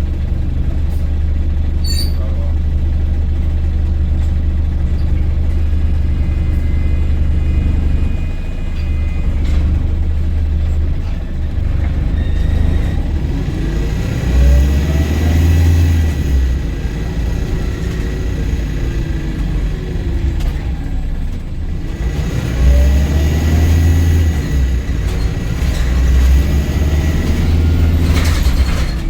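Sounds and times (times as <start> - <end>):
bus engine rumble: 0.0 - 29.0
rising whine of bus: 0.0 - 29.0.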